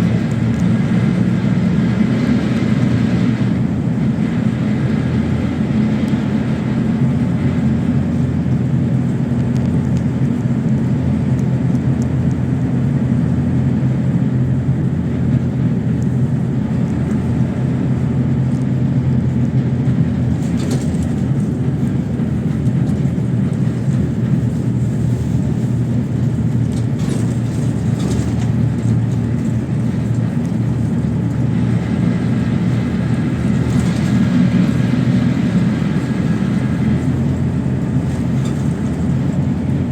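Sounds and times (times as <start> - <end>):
bus engine running: 0.0 - 39.9
road noise: 0.0 - 39.9.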